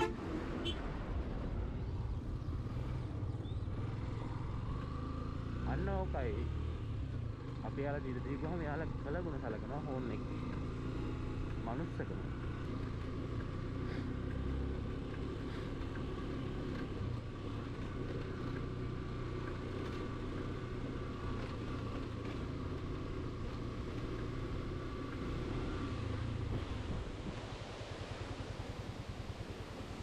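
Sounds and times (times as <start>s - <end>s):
motorcycle engine running: 1.9s - 30.0s.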